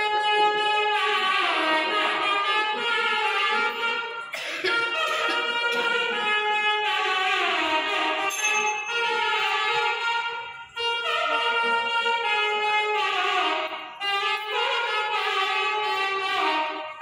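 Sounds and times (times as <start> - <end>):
double-reed wind instrument melody: 0.0 - 17.0.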